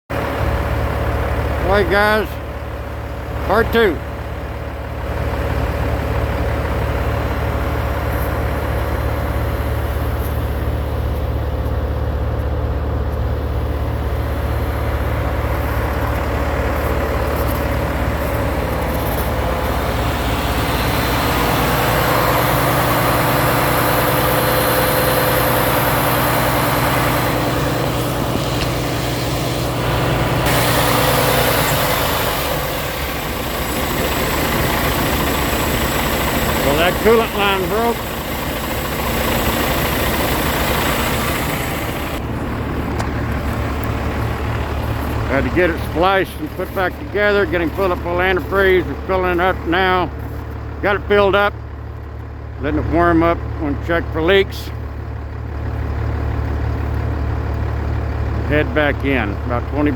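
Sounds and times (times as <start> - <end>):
truck engine idling: 0.1 - 59.9.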